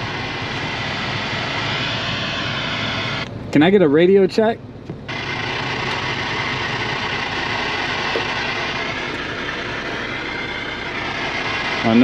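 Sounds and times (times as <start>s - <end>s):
radio static hiss: 0.0s - 3.3s, 5.1s - 12.0s
low engine hum: 0.0s - 12.0s.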